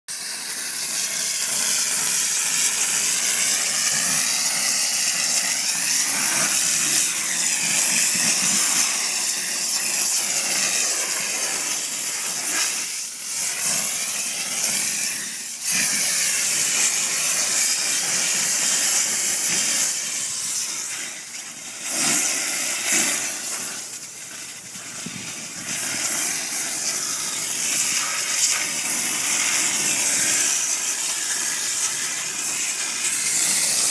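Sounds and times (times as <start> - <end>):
pressure sprayer hissing: 0.1 - 33.9.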